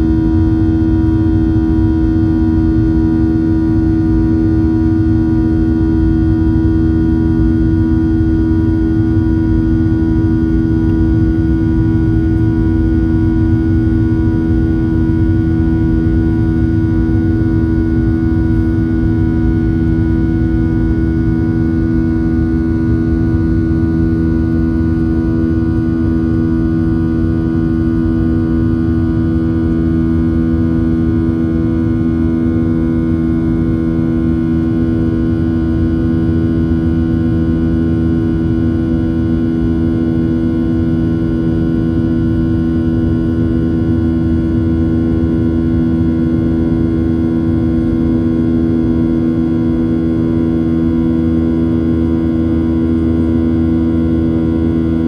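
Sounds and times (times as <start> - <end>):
jet engine rush in cabin: 0.0 - 55.0
steady humming tones: 0.0 - 55.0.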